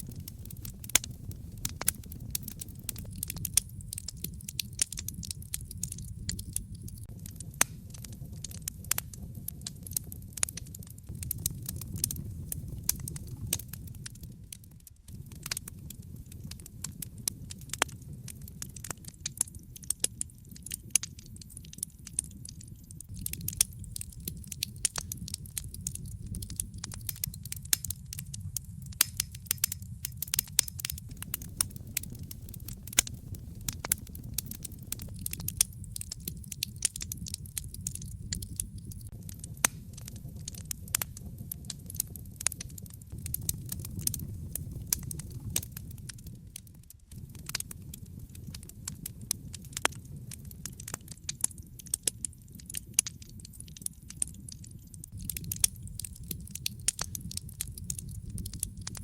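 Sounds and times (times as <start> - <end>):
sharp pops and snaps: 0.0 - 59.0
wood fire crackling: 0.0 - 59.0.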